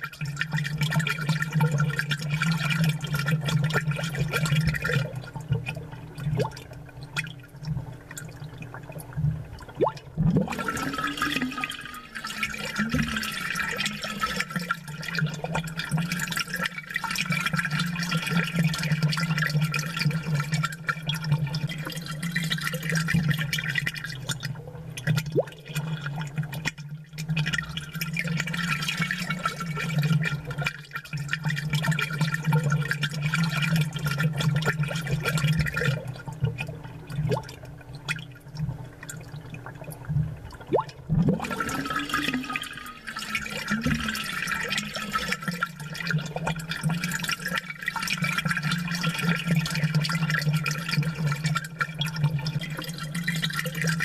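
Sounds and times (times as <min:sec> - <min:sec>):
air bubbles gurgling in water: 0:00.0 - 0:54.0
water drips and splashes: 0:00.0 - 0:54.0.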